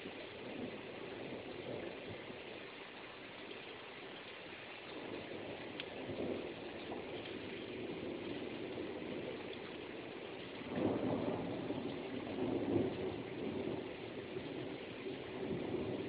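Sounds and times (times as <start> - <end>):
steady rain falling: 0.0 - 16.0
thunder rumbling: 0.0 - 16.0.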